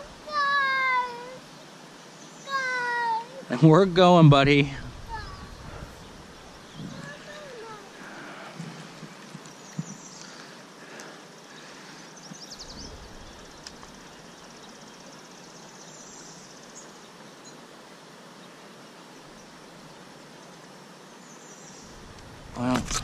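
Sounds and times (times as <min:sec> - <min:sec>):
stream rippling: 0:00.0 - 0:23.0.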